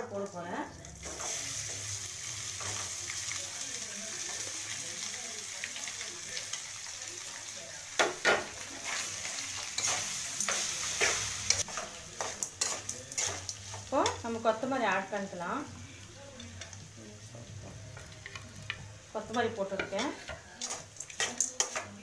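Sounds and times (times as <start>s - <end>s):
sizzling hiss in a pan: 0.0s - 22.0s.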